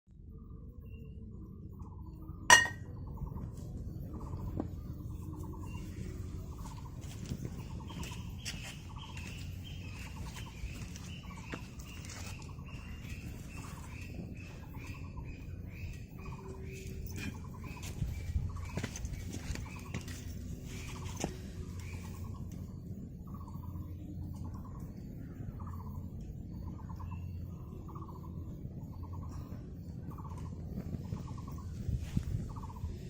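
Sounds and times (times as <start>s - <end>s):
low background rumble: 0.1s - 33.0s.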